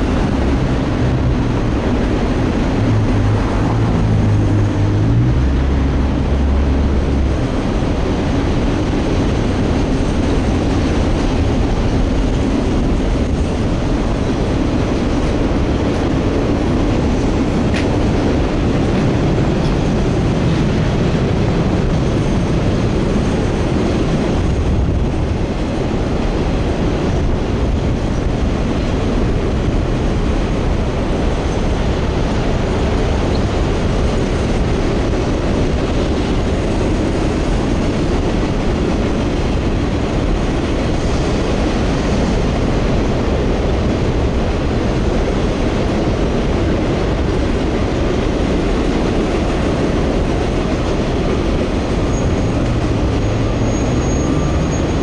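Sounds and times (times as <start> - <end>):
train cars rumbling on tracks: 0.0 - 55.0.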